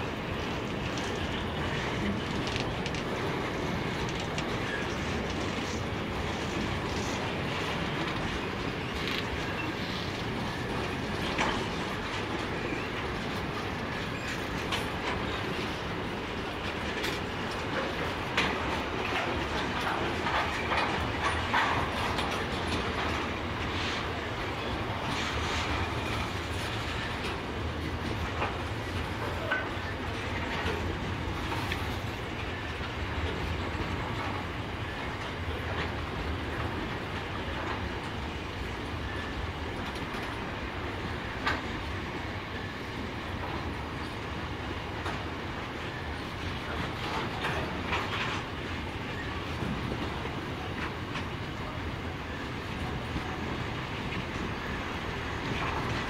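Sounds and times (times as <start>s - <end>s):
freight train rumbling past: 0.0s - 56.0s
wheels clicking on track: 0.2s - 42.0s, 44.8s - 56.0s.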